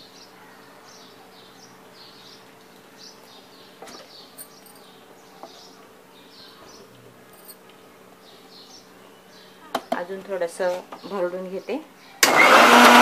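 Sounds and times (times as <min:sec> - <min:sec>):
faint high chirping: 0:00.0 - 0:10.0, 0:11.0 - 0:12.2.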